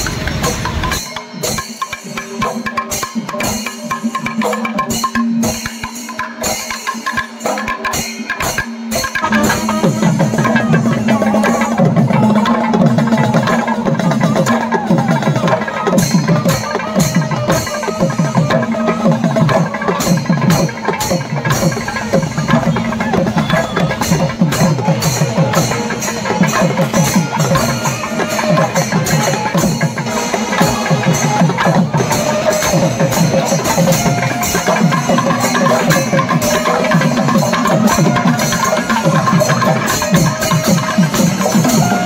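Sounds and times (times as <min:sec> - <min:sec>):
rapid rhythmic drumming: 0:00.0 - 0:42.0.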